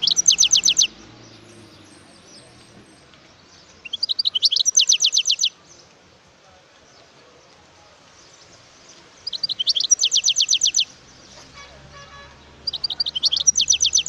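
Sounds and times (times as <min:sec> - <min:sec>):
goldfinch singing: 0:00.0 - 0:06.0, 0:08.1 - 0:14.0.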